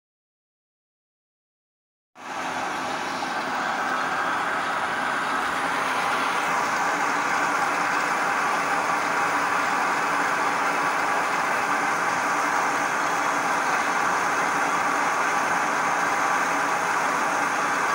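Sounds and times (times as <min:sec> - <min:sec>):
lathe cutting metal: 0:02.3 - 0:17.9.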